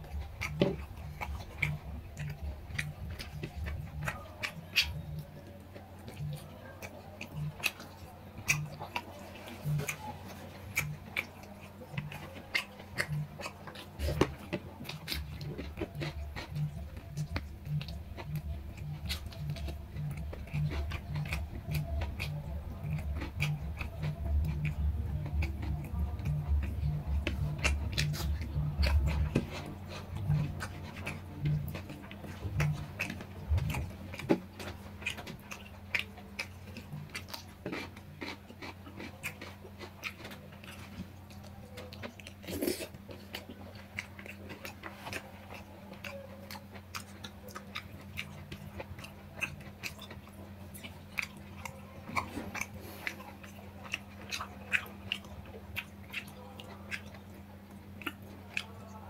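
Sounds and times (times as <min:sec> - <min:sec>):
person chewing with wet clicks: 0:00.0 - 0:59.0
steady low hum: 0:00.0 - 0:59.0.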